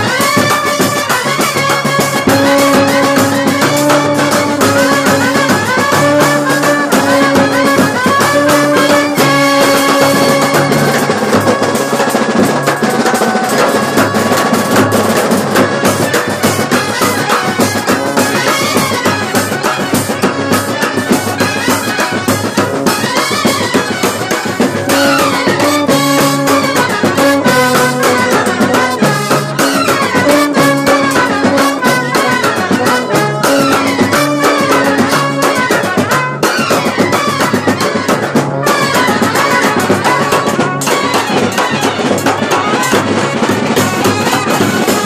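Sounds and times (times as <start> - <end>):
cymbals: 0.0 - 45.0
rapid drum beating: 0.0 - 45.0
trumpets: 0.0 - 45.0.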